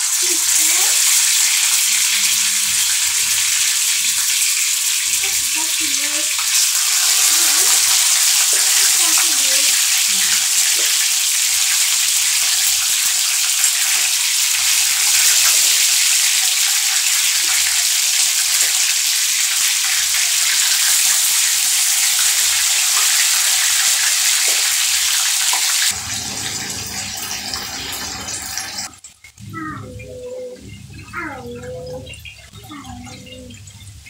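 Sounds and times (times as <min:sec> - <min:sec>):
chicken sizzling in frying oil: 0:00.0 - 0:29.7.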